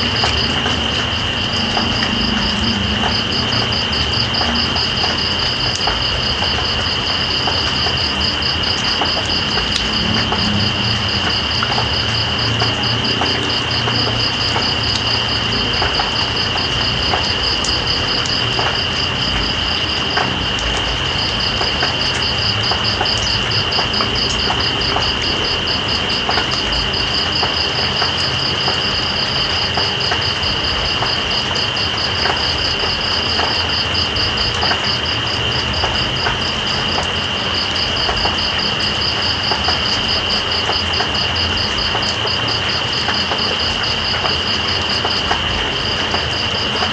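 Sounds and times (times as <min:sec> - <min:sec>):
rain hissing: 0:00.0 - 0:46.9
water drips: 0:00.0 - 0:46.9.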